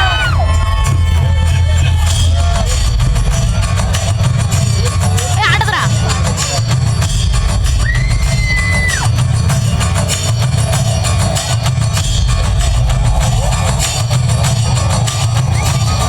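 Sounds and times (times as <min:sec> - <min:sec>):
heavy low drum beat: 0:00.0 - 0:16.0.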